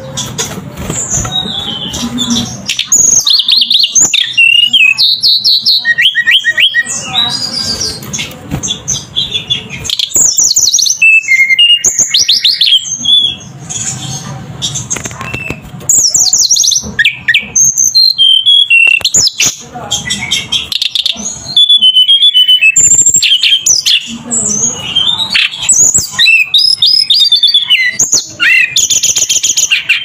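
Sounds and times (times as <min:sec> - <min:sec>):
bird chirping: 0:00.0 - 0:30.0.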